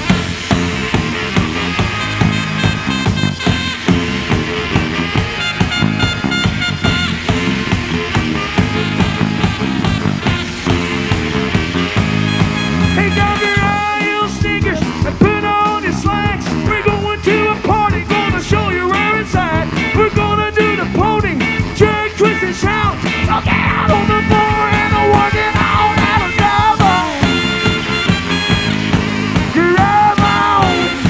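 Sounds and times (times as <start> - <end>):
crowd: 0.0 - 31.0
live rockabilly band: 0.0 - 31.0.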